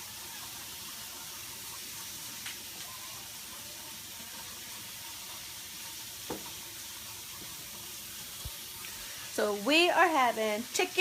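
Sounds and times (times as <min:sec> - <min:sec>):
chicken sizzling hiss: 0:00.0 - 0:10.0.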